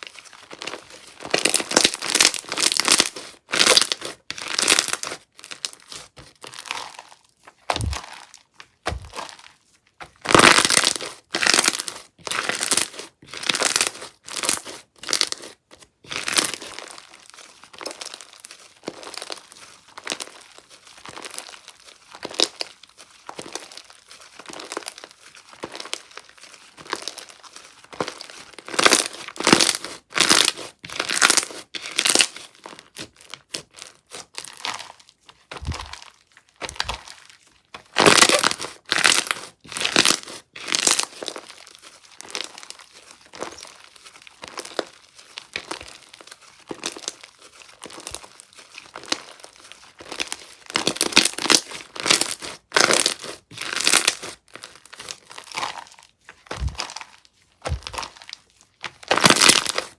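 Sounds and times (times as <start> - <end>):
slime crackling and popping: 0.1 - 59.9.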